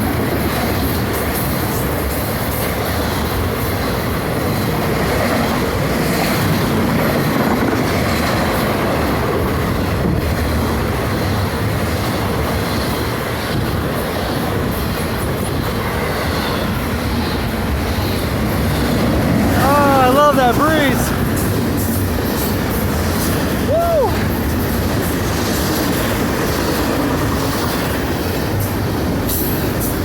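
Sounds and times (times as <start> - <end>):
freight train wheels rushing: 0.0 - 30.0.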